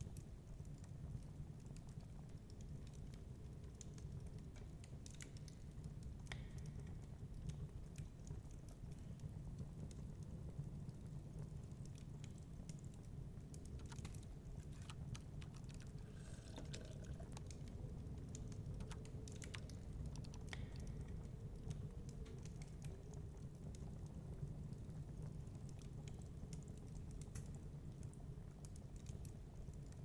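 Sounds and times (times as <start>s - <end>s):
fire pops and snaps: 0.0s - 30.0s
wood fire crackling: 0.0s - 30.0s.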